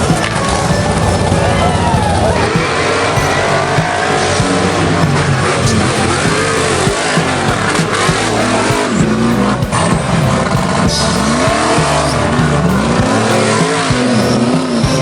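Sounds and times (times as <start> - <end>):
rough noisy wash: 0.0 - 15.0
truck engine revving hard: 0.0 - 15.0.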